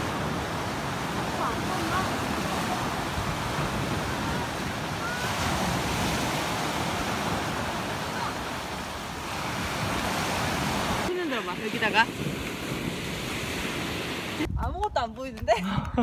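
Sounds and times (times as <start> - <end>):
small waves breaking on sand: 0.0 - 14.5.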